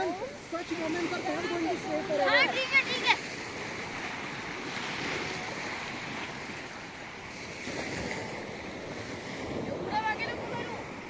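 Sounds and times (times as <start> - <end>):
waves washing onto gravel shore: 0.0 - 11.0
wind on microphone: 0.0 - 11.0.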